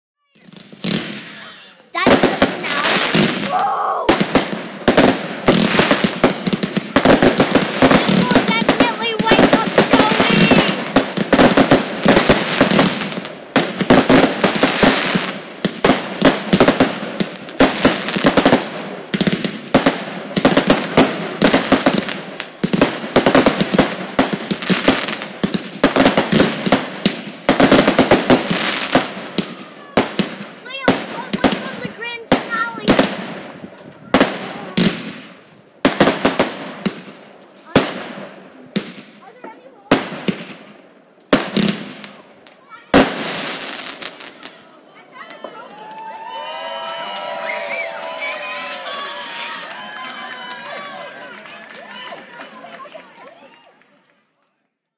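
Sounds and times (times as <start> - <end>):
fireworks bangs and crackling: 0.2 - 53.3.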